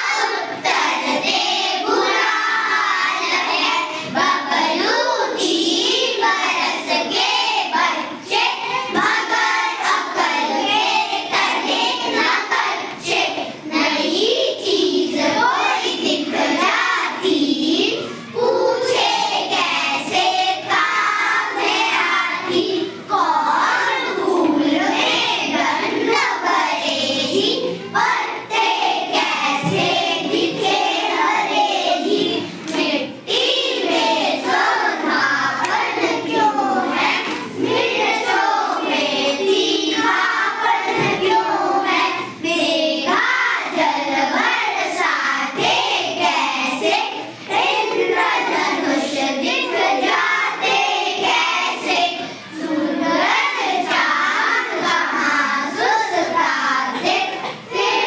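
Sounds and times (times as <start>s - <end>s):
children chanting in chorus: 0.0s - 58.0s.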